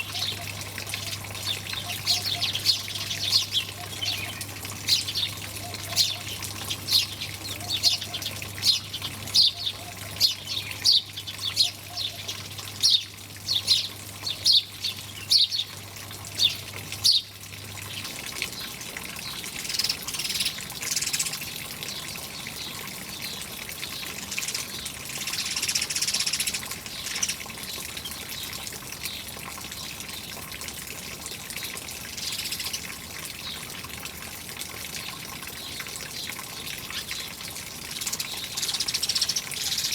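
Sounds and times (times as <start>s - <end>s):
small birds chirping: 0.0s - 15.7s, 18.0s - 29.3s, 32.0s - 33.7s, 35.6s - 39.9s
trickling water: 0.0s - 39.9s.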